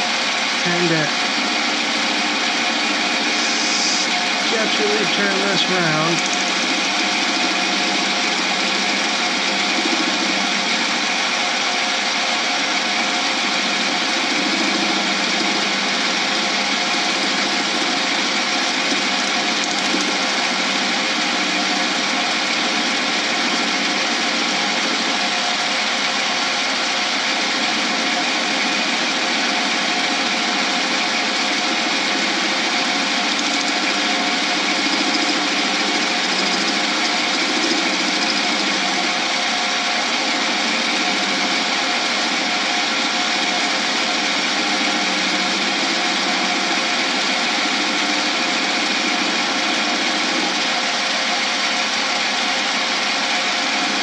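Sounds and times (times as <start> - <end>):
metal lathe motor hum and whine: 0.0 - 54.0.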